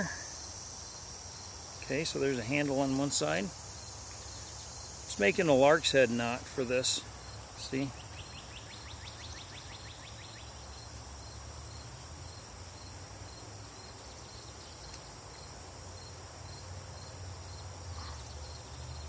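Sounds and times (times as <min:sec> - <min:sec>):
insects chirping and buzzing: 0:00.0 - 0:19.0
rapid insect trill: 0:00.0 - 0:19.0.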